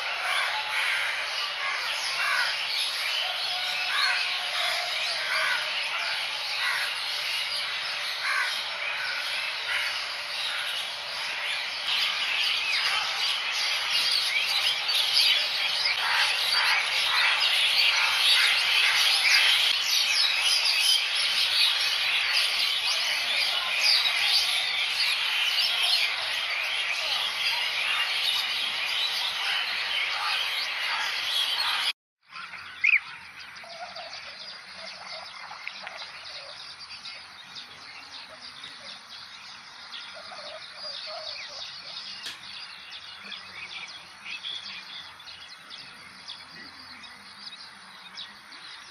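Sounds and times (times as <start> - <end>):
starlings chattering and whistling: 0.0 - 48.9.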